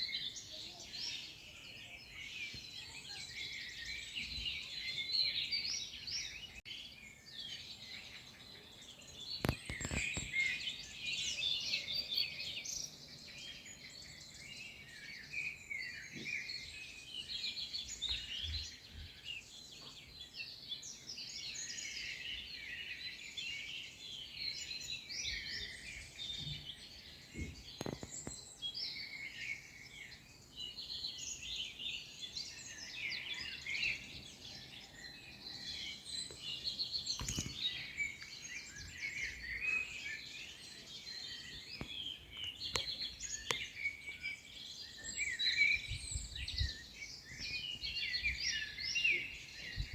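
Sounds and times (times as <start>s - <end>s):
songbirds chirping and singing: 0.0s - 49.9s.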